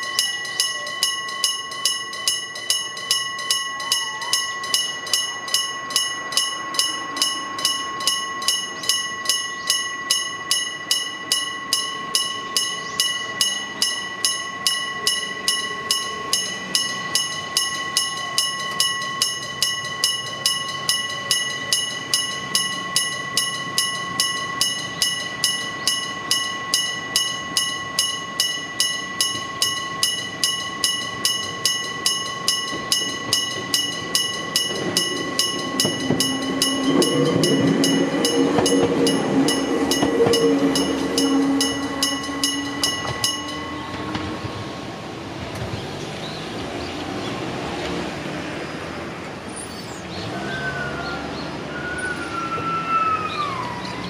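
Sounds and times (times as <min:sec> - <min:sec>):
level crossing bell ringing: 0:00.0 - 0:45.2
electric train rumbling: 0:00.0 - 0:54.0.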